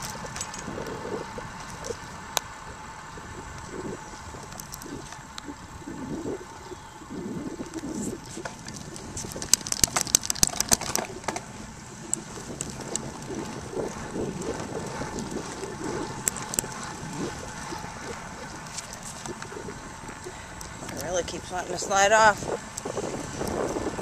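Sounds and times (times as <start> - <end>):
sharp ticks: 0.0 - 6.4, 7.6 - 23.9
bicycle rolling: 0.0 - 24.0
wind noise: 0.0 - 24.0.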